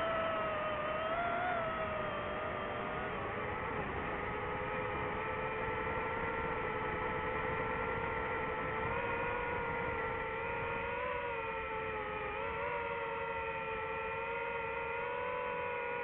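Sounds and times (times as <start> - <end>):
drone propellers whirring: 0.0 - 16.0.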